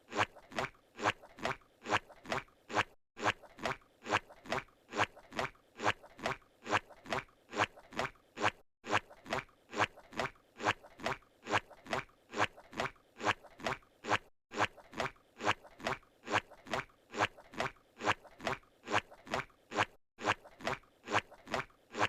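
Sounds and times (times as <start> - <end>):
soft squishy cartoon footsteps: 0.1 - 22.0.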